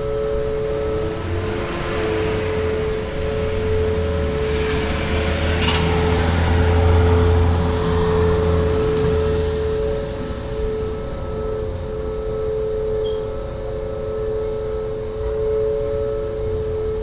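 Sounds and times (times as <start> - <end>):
vehicle passing: 0.0 - 17.0
warning siren steady tone: 0.0 - 17.0.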